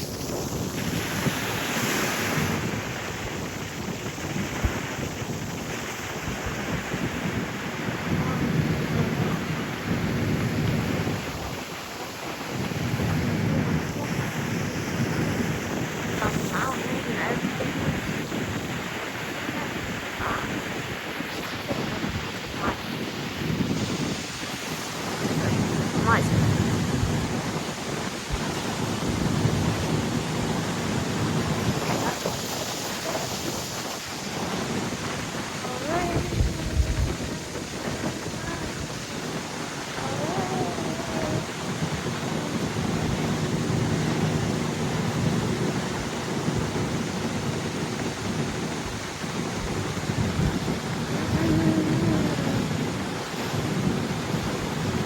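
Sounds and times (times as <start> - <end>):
wind and water hiss: 0.0 - 55.0
wind buffeting microphone: 0.0 - 55.0.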